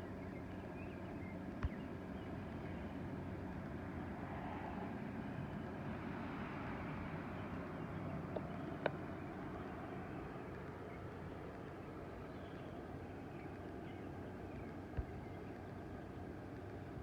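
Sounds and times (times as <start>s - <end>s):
outdoor hiss and rumble: 0.0s - 17.0s.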